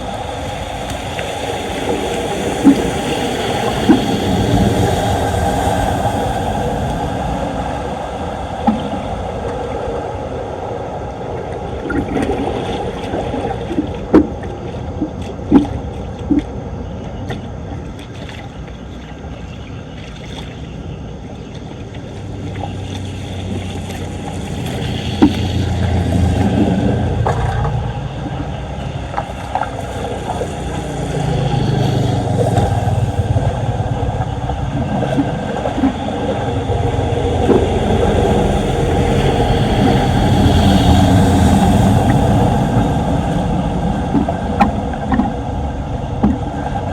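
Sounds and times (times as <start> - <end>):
deep rumble: 0.0 - 18.4, 20.9 - 46.9
floodwater rushing into storm drain: 0.0 - 46.9.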